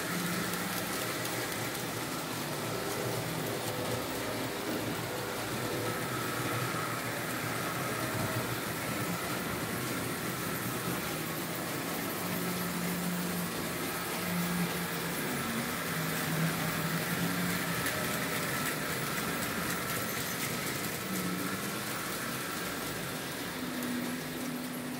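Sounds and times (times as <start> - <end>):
model train motors whirring: 0.0 - 24.9.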